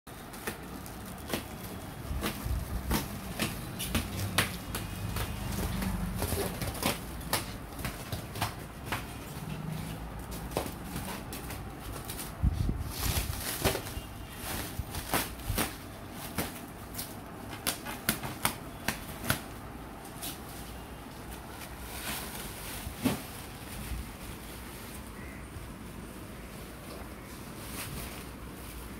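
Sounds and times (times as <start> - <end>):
plastic wrap crinkling: 0.1 - 25.4.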